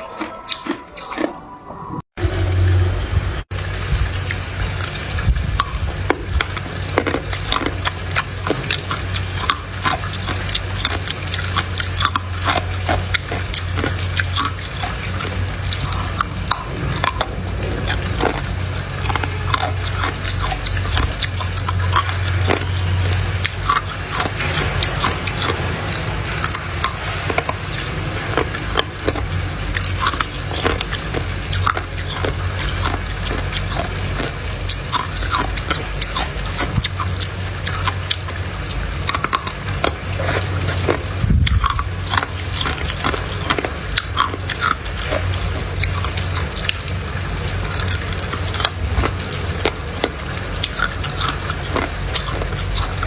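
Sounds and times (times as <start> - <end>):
ice cubes crunching: 0.0 - 1.4, 4.3 - 53.0
low hum: 0.0 - 53.0.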